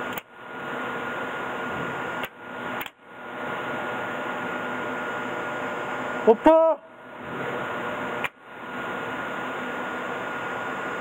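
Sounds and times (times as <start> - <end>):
industrial machine humming: 0.0 - 11.0.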